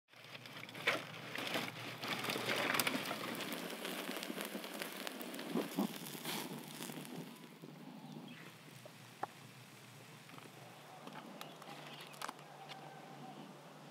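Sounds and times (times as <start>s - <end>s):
wood fire crackling: 0.1s - 13.9s.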